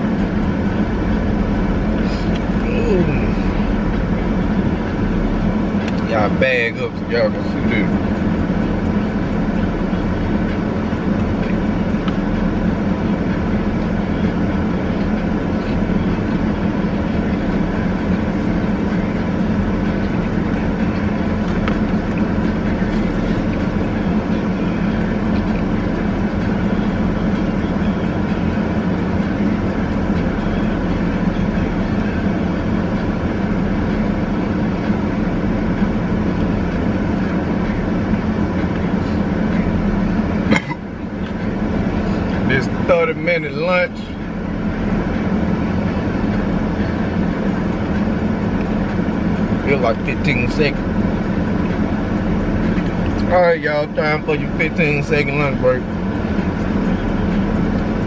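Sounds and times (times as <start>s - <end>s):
mechanical drone with low hum: 0.0s - 58.0s.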